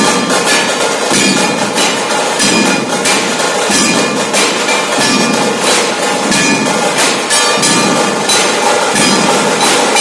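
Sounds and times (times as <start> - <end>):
drums beaten in dense rhythm: 0.0 - 10.0
metallic ringing: 0.0 - 10.0.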